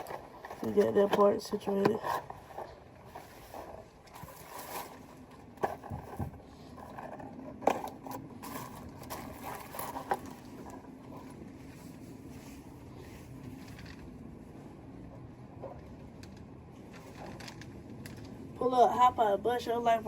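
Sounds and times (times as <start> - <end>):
faint steady background hum: 0.0 - 20.0.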